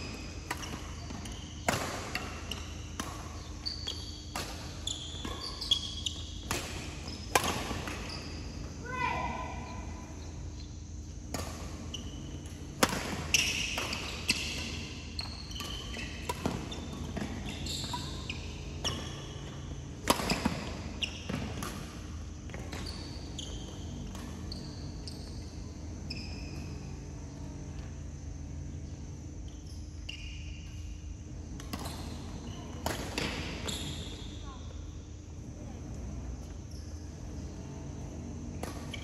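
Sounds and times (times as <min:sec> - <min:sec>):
shoes squeaking on court floor: 0:00.0 - 0:10.7, 0:11.8 - 0:34.8, 0:35.4 - 0:39.0.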